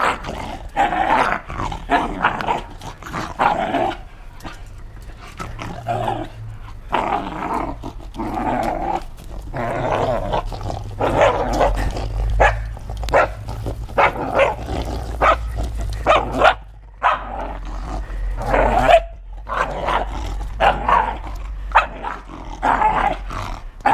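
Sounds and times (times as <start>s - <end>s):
dog growling and barking: 0.0s - 23.9s.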